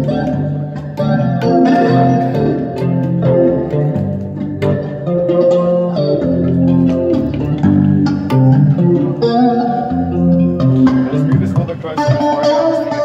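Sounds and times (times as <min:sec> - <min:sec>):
electric guitar notes and chords: 0:00.0 - 0:13.0.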